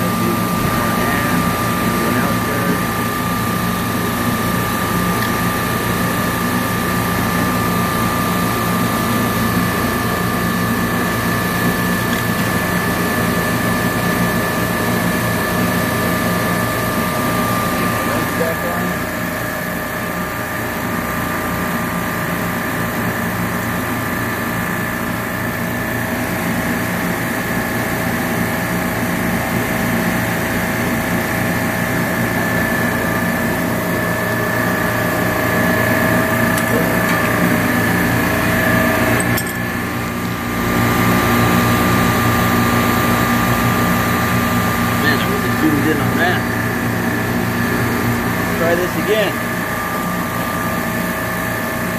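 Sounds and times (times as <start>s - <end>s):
refrigeration compressors droning: 0.0s - 51.9s.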